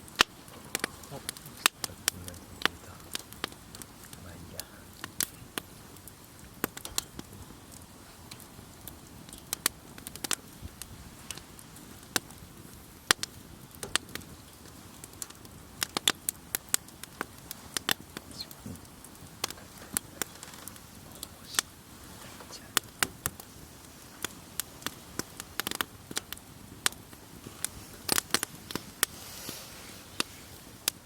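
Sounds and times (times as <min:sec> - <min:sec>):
campfire crackling and popping: 0:00.0 - 0:31.0
faint soft hiss: 0:00.0 - 0:31.0.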